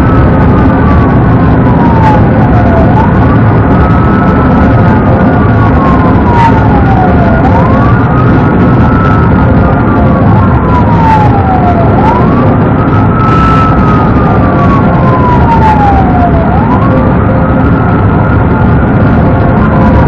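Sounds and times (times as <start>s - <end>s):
car engine and road noise: 0.0s - 20.0s
police siren wailing: 0.0s - 20.0s.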